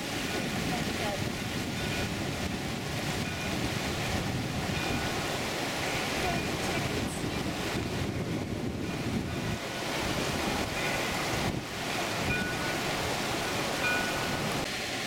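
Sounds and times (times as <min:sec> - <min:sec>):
wind buffeting microphone: 0:00.0 - 0:14.7
fast creek rushing water: 0:00.0 - 0:15.0.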